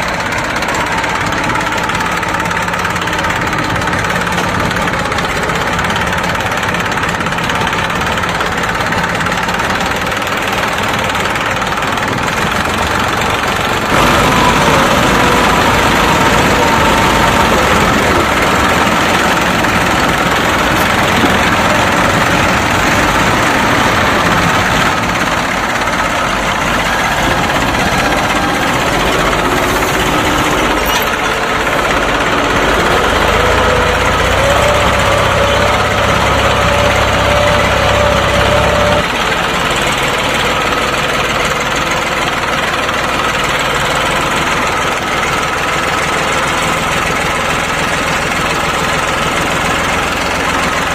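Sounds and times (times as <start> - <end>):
tractor engine knocking idle: 0.0 - 50.9.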